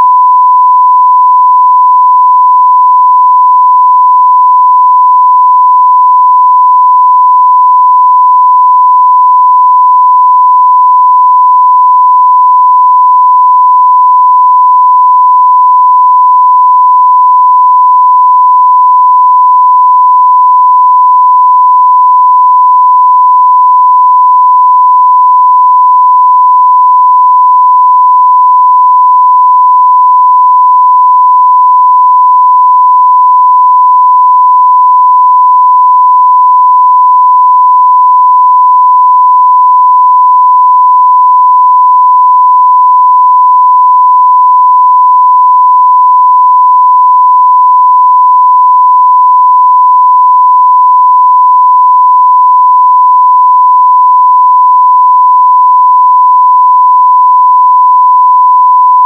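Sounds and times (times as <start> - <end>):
sine wave test tone: 0.0 - 59.0.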